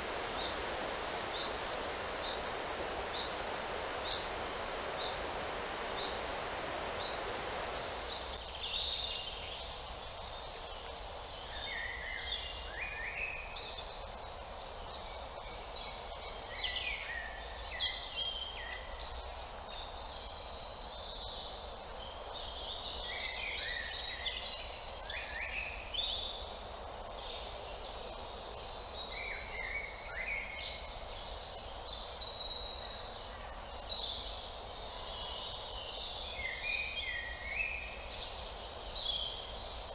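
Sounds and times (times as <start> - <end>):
songbirds singing and calling: 5.9 - 39.9.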